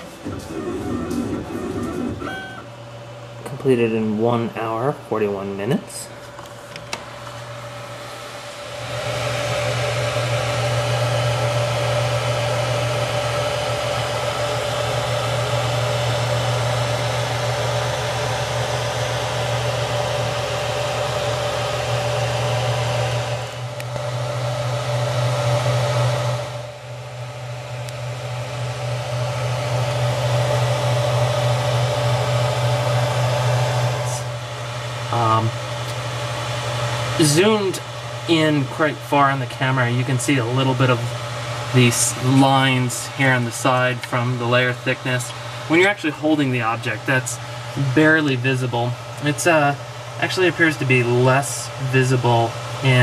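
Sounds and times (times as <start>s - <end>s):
electric fan whirring: 0.0s - 53.0s.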